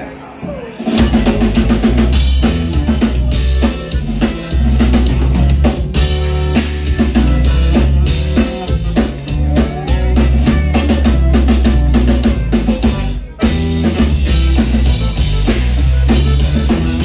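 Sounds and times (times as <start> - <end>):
guitar: 0.0 - 17.0
drum kit steady beat: 0.4 - 17.0
button accordion: 1.0 - 17.0
electric bass: 1.0 - 17.0.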